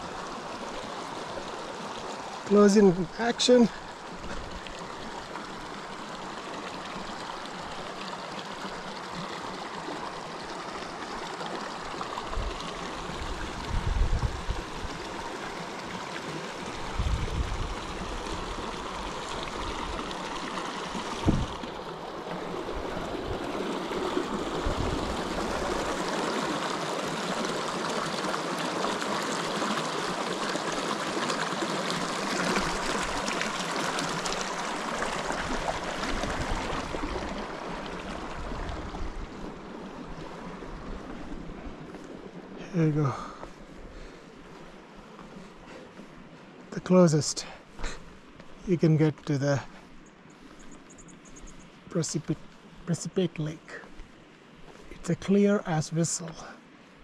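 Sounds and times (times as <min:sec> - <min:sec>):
water trickling over rocks: 0:00.0 - 0:56.5.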